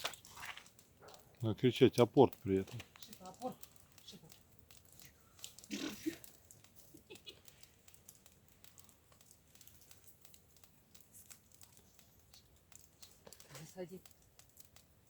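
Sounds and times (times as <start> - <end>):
faint ticks and rustles: 0.0 - 15.0.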